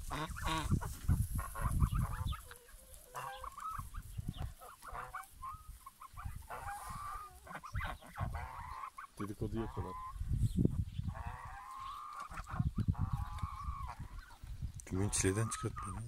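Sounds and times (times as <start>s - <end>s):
wind rumble on microphone: 0.0s - 2.6s, 3.7s - 4.6s, 5.2s - 8.6s, 9.5s - 16.0s
geese honking: 0.0s - 10.2s, 11.1s - 16.0s
chickens clucking: 0.0s - 16.0s.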